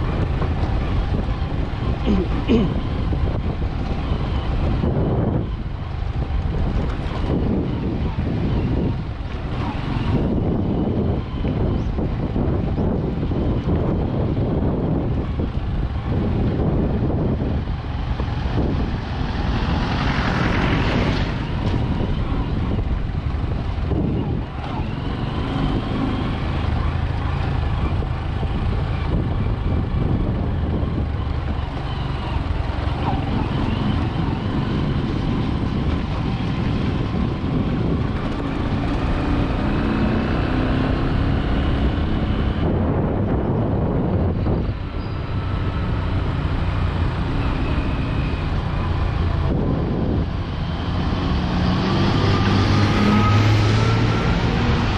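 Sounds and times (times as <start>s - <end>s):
vehicle driving on dirt road: 0.0s - 54.9s
wind noise on microphone: 0.0s - 54.9s.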